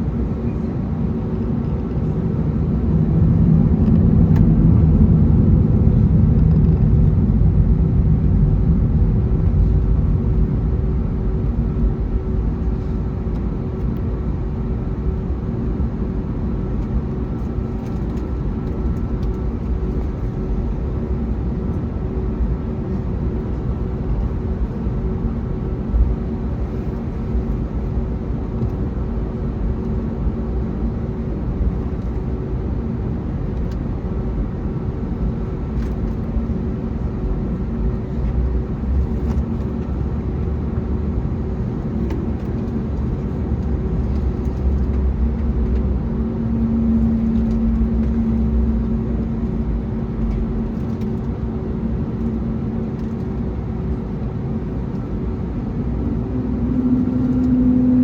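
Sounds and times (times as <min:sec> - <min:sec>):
aircraft cabin low rumble: 0:00.0 - 0:58.0
engine hum: 0:00.0 - 0:58.0.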